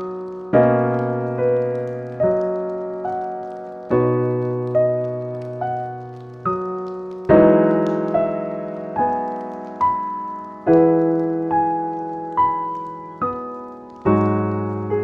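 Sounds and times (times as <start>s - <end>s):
gentle solo piano: 0.0s - 15.0s.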